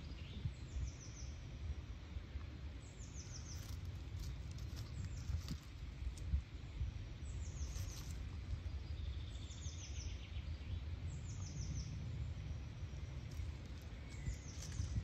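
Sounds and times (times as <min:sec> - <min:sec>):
songbird singing: 0:00.0 - 0:15.0
steady low rumble: 0:00.0 - 0:15.0.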